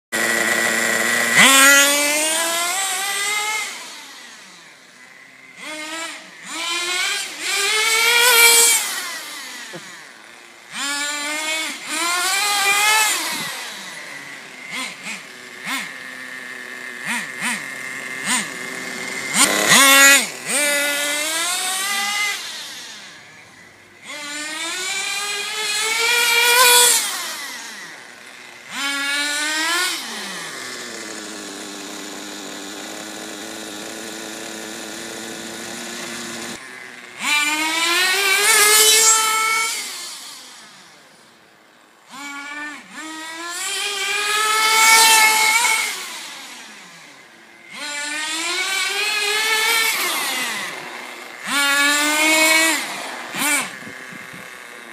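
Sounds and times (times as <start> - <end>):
nitro engine high-pitched whine: 0.2 - 54.9.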